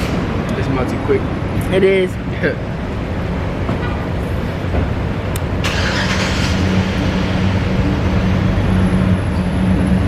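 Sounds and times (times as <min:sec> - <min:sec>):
car engine running: 0:01.1 - 0:10.0.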